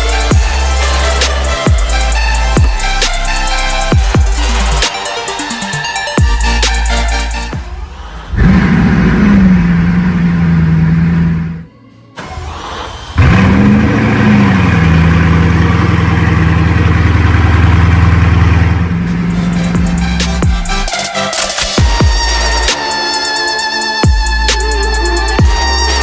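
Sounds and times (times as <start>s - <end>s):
car engine starting and idling: 0.0s - 22.8s.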